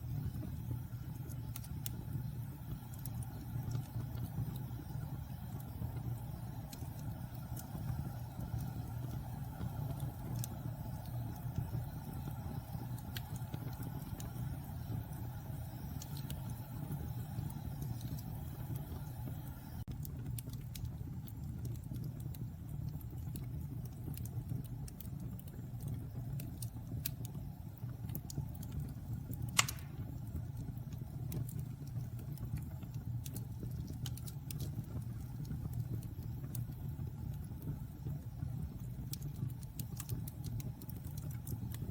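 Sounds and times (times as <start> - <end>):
fire crackling and popping: 0.0 - 41.9
wood fire rumbling: 0.0 - 41.9.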